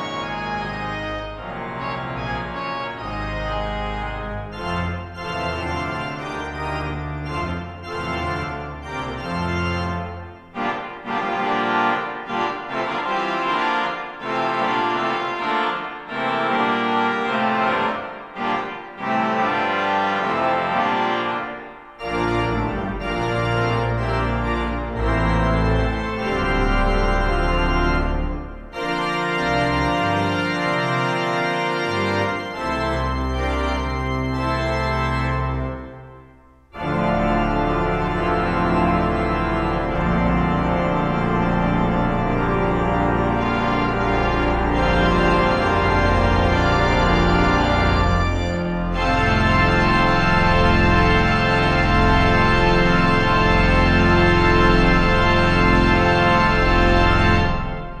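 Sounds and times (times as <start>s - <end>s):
deep organ pedal bass notes: 0.0s - 58.0s
pipe organ playing chords: 0.0s - 58.0s.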